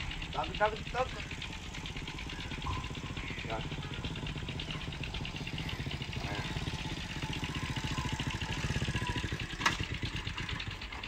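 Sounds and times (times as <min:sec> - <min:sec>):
motorcycle engine putter: 0:00.0 - 0:11.0.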